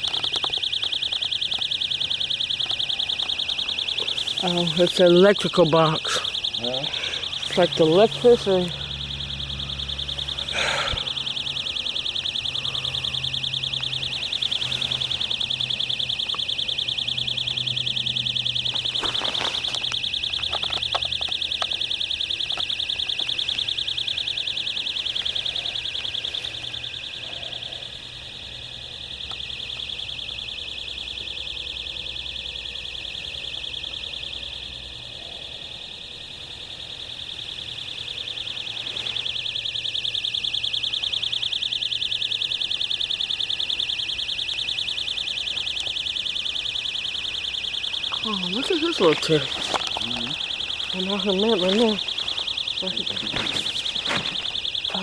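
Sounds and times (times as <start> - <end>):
electrical chirping buzz: 0.0 - 27.2, 35.7 - 55.0.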